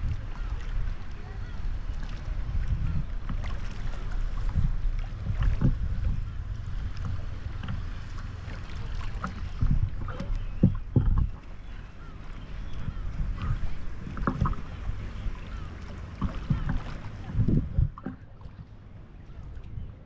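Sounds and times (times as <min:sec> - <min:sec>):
low buffeting on microphone: 0:00.0 - 0:20.0
water splashing and lapping: 0:00.0 - 0:20.0.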